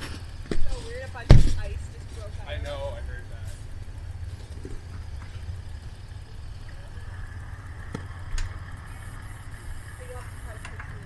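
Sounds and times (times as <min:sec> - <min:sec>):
pickup truck engine idling: 0:00.0 - 0:11.0.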